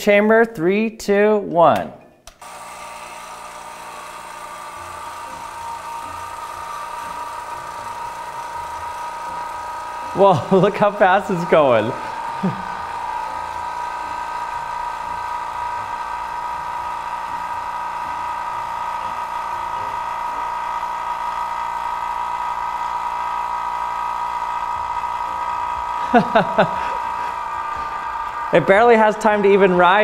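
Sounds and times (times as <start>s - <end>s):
vacuum pump humming and whining: 2.3s - 30.0s.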